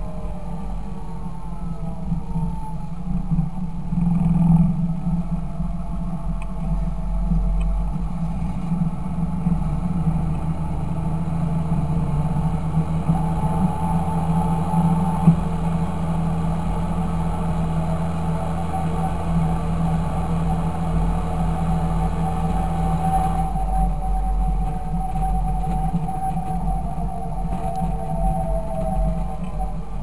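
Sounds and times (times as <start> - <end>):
tractor diesel engine droning: 0.0 - 30.0.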